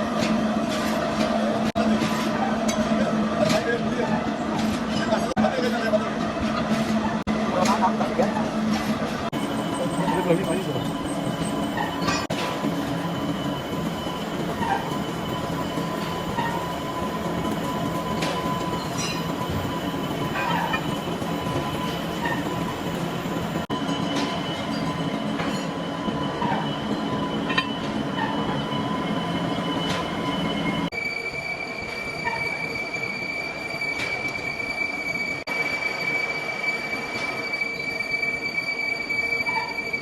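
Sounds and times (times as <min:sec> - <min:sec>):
metalworking machinery whining: 0:00.0 - 0:40.0.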